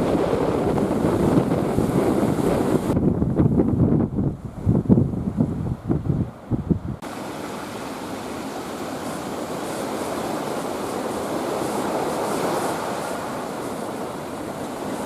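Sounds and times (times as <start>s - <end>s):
heavy surf waves rushing: 0.0s - 15.0s.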